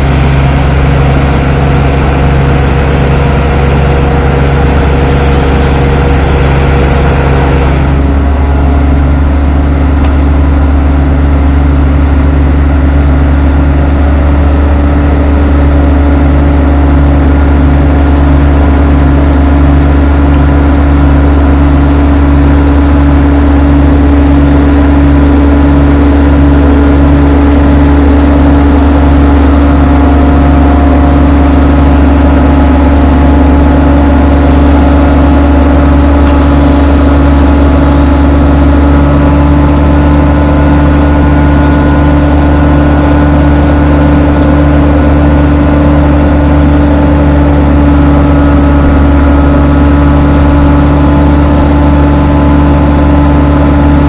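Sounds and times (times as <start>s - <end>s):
wood chipper engine running: 0.0s - 54.0s.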